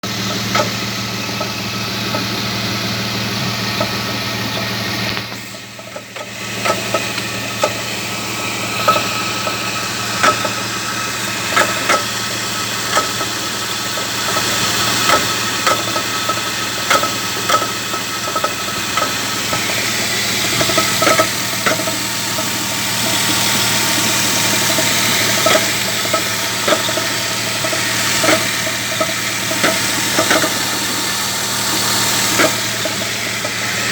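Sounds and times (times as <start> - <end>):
engine knocking: 0.0 - 33.9
engine running: 0.0 - 33.9.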